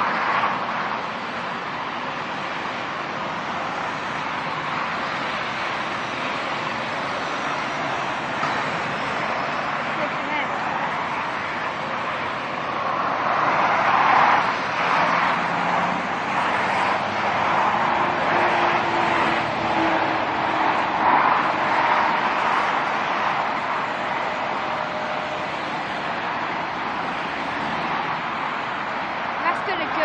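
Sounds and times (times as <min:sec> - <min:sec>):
motorway traffic rushing past: 0:00.0 - 0:30.0.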